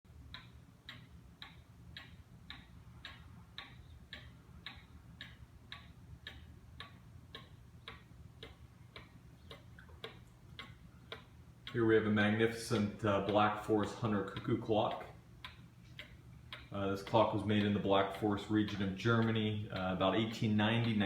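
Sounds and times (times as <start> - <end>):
low steady hum: 0.1 - 21.0
pendulum clock ticking: 0.1 - 21.0.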